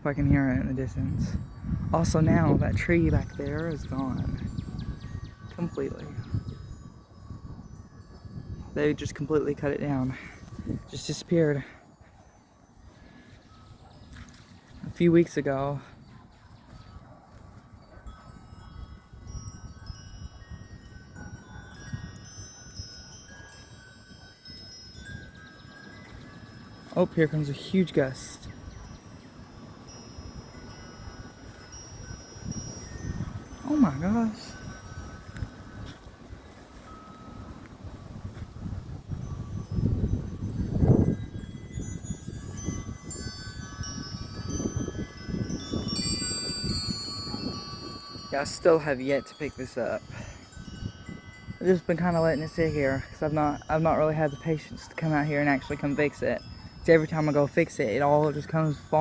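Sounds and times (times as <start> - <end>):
low rumble of wind: 0.0 - 59.0
wind chimes ringing: 0.0 - 59.0.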